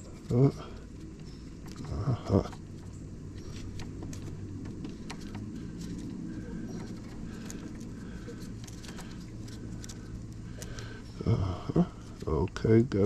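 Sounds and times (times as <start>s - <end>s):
faint bird calls: 0.0s - 12.2s
steady low hum: 0.0s - 13.0s
small tools clicking and tapping: 0.2s - 11.0s.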